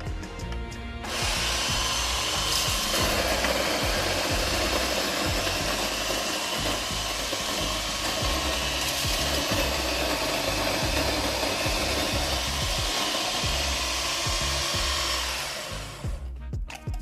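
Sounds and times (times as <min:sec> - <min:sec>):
electric coffee grinder grinding: 0:01.0 - 0:16.1.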